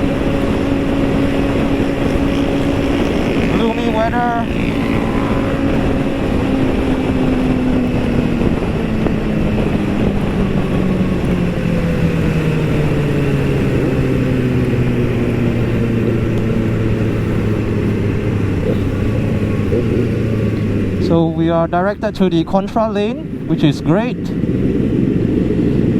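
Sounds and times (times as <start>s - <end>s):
motorcycle engine easing off: 0.0s - 25.9s
wind and road noise: 0.0s - 25.9s.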